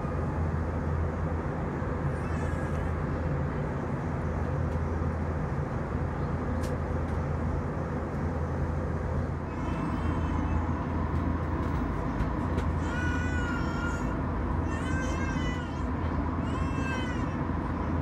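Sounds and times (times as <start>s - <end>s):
aircraft engine drone: 0.0s - 18.0s.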